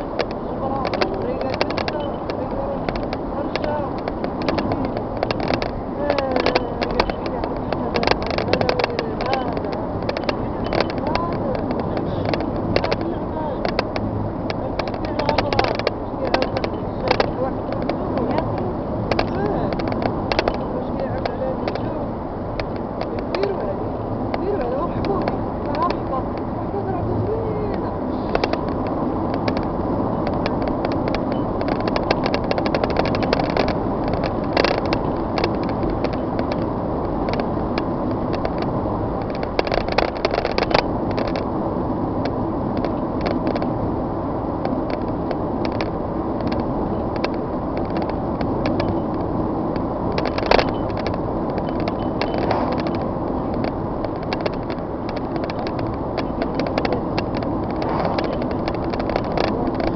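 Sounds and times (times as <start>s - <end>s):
moving vehicle rumble: 0.0s - 59.9s
small rattles and clicks: 0.0s - 59.9s.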